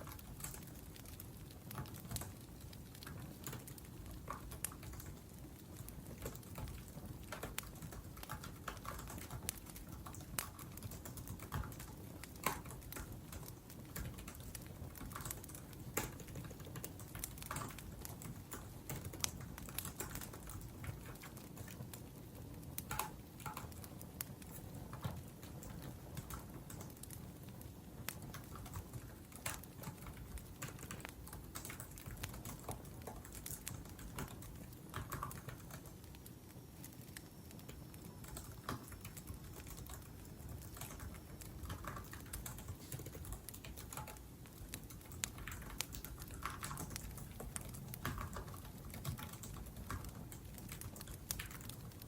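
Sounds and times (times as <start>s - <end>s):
typing on laptop keyboard: 0.0s - 52.0s
wood fire crackling: 0.0s - 52.0s.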